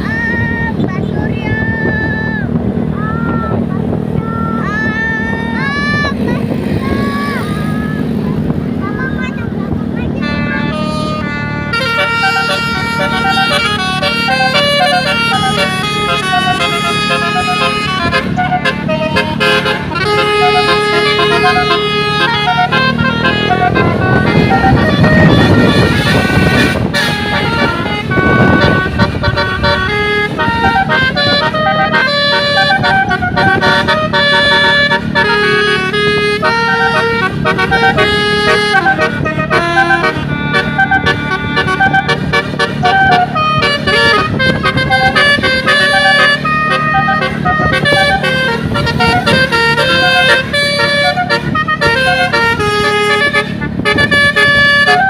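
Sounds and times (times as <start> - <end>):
bus horn playing a melody: 0.0 - 55.0
low engine rumble: 0.0 - 55.0.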